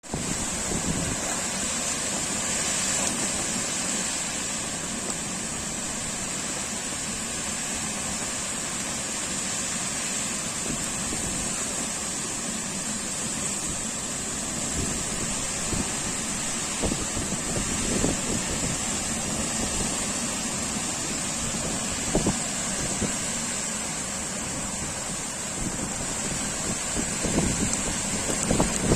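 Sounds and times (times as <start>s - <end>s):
heavy rain pouring: 0.0s - 28.9s
wind: 0.0s - 28.9s.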